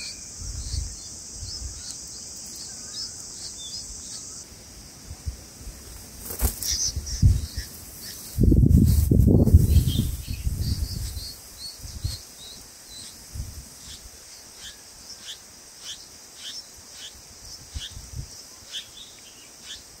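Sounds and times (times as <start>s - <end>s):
insect hiss: 0.0s - 20.0s.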